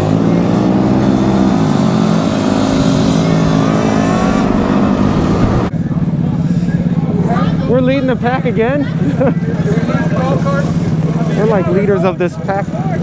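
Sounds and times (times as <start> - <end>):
scooter engines running: 0.0 - 13.0.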